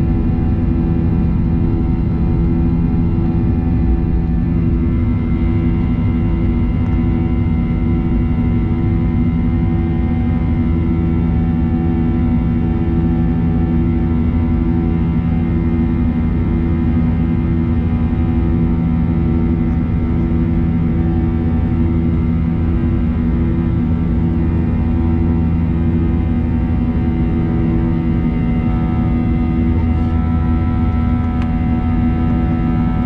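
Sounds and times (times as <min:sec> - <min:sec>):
jet engine drone in cabin: 0:00.0 - 0:33.0.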